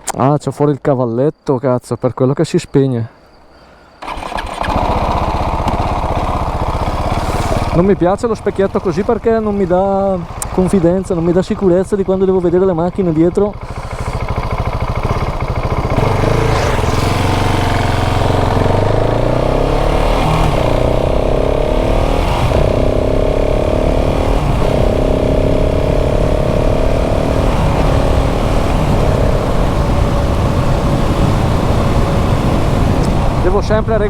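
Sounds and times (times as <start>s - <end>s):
motorcycle engine revving: 4.0s - 34.0s.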